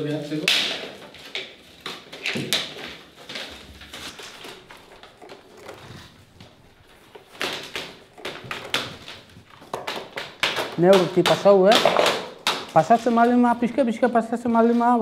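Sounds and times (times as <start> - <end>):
wooden splints clacking: 0.5 - 13.6.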